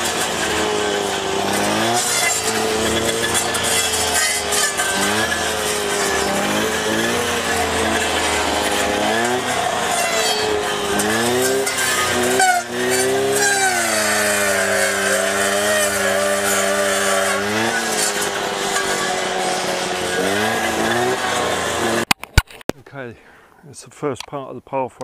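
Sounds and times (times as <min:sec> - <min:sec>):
strimmer engine running and cutting: 0:00.0 - 0:22.2.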